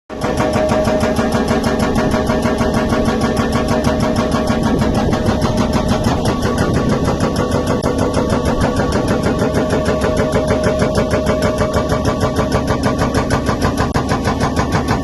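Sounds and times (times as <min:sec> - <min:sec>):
excavator engine running: 0:00.1 - 0:15.0
hydraulic breaker hammering: 0:00.1 - 0:15.0.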